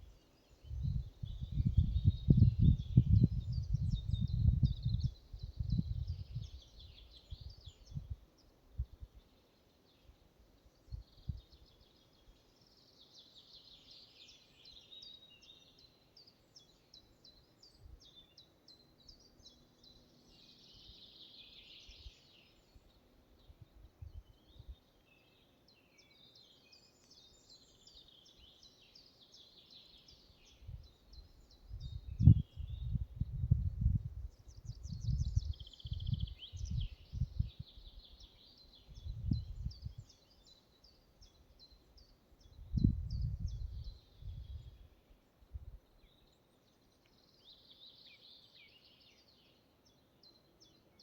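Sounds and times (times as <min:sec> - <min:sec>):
songbirds singing: 0:00.0 - 0:51.0.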